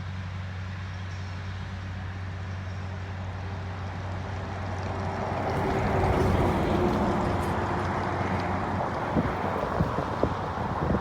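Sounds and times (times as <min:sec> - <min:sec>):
locomotive engines humming: 0:01.8 - 0:11.0.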